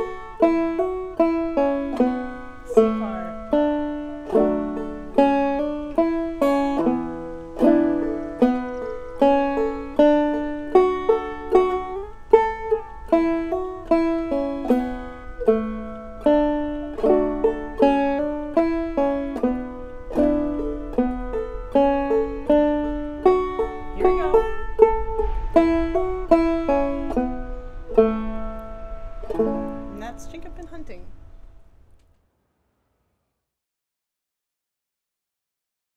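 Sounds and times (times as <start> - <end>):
banjo playing old-time tune: 0.0 - 31.4.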